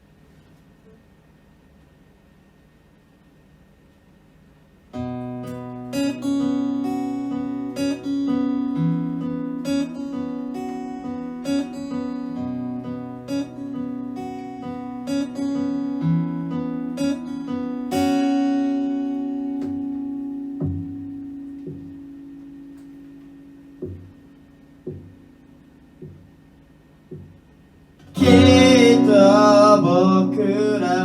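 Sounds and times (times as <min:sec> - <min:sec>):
acoustic guitar strumming chords: 0:04.9 - 0:31.0.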